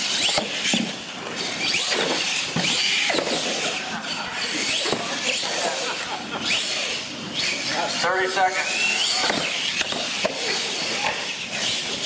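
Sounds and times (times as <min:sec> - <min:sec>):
toy truck motor whining: 0:00.0 - 0:12.0.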